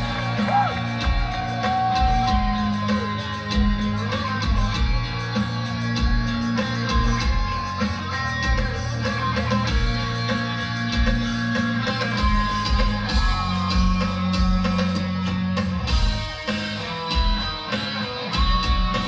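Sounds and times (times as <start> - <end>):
electric guitar: 0.0 - 19.0
live rock band playing: 0.0 - 19.0.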